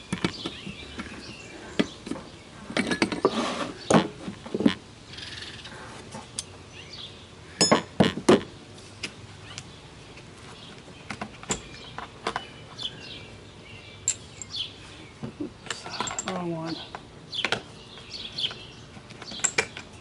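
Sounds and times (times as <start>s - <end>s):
birds chirping: 0.0s - 4.3s, 5.0s - 20.0s.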